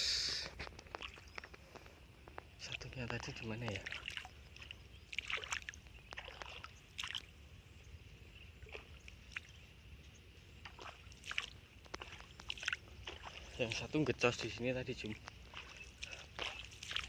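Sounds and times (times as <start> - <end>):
feet wading through water and mud: 0.4 - 17.0.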